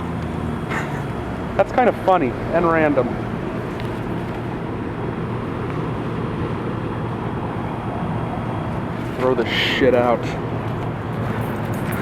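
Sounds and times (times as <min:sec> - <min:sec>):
air conditioner condenser hum: 0:00.0 - 0:12.0
fan rushing air: 0:00.0 - 0:12.0.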